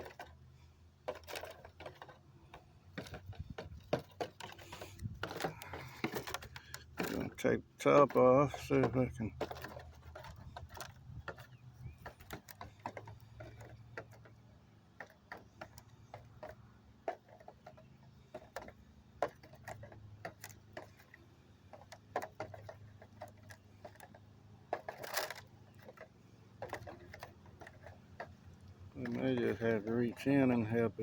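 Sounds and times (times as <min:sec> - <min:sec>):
scraping rustle: 0:00.0 - 0:31.0.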